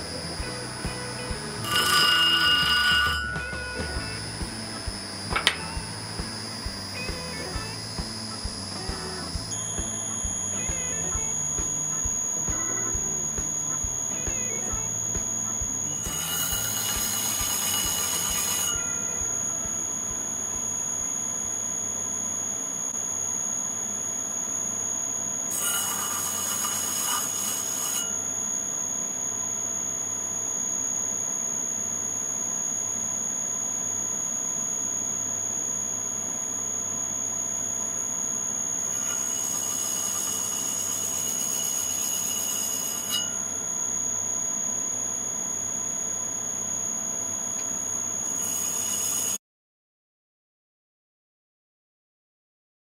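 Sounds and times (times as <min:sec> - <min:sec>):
sander motor whine: 0:00.0 - 0:49.4.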